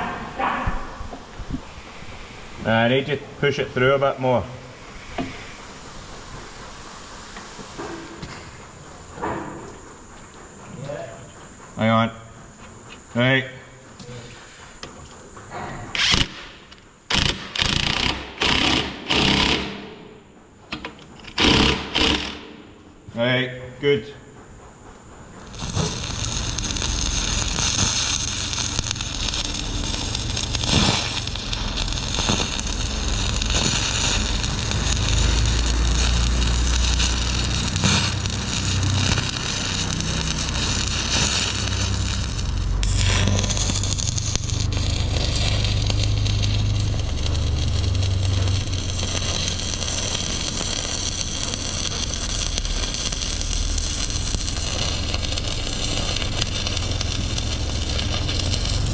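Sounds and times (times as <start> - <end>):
welding arc crackling: 0.0 - 10.0, 15.9 - 20.1, 21.2 - 22.8, 25.3 - 58.9.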